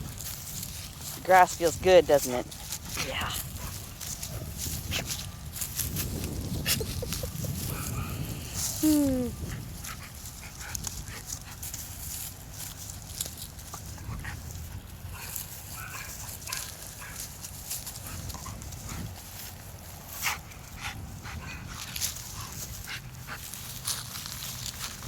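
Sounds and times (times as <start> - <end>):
steady low rumble: 2.4 - 25.0.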